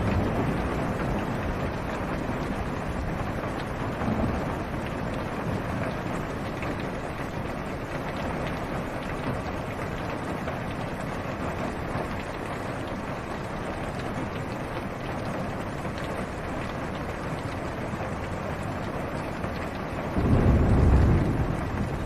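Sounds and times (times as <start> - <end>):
heavy rain on car roof: 0.0 - 22.0
raindrop ticks: 0.0 - 22.0.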